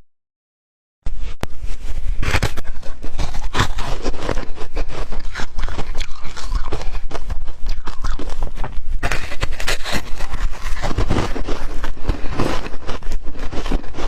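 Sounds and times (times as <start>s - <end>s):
ice being chewed: 2.3s - 14.0s.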